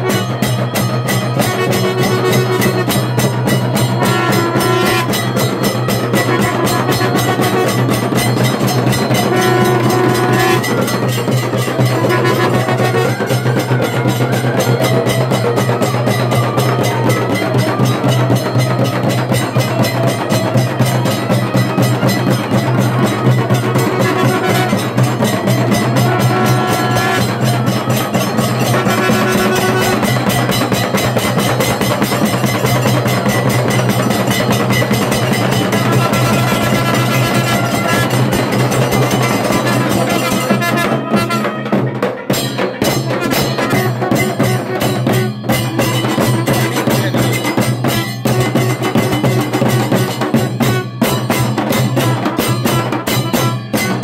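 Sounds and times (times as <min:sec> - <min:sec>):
fast steady drumming: 0:00.0 - 0:54.0.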